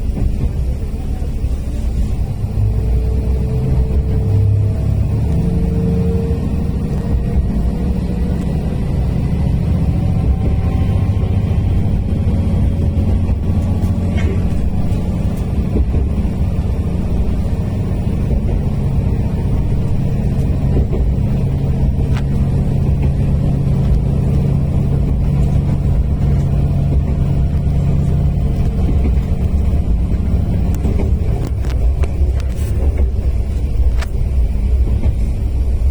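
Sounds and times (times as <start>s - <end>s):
railcar engine drone: 0.0s - 35.9s
wheels rumbling on track: 0.0s - 35.9s.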